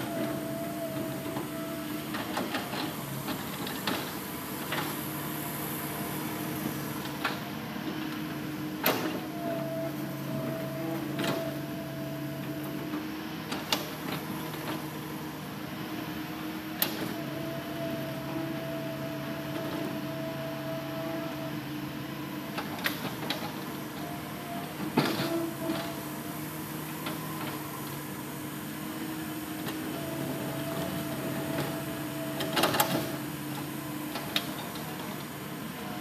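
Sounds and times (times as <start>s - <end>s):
excavator diesel engine running: 0.0s - 36.0s
hydraulic whine: 0.0s - 36.0s.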